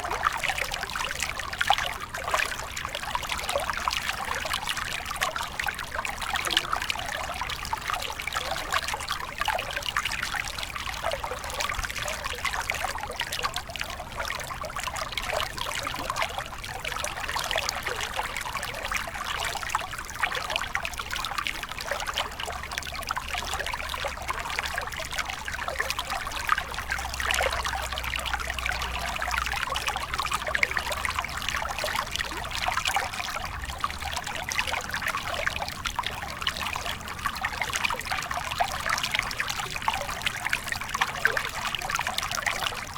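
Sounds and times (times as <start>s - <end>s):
stream trickling over stones: 0.0s - 42.9s.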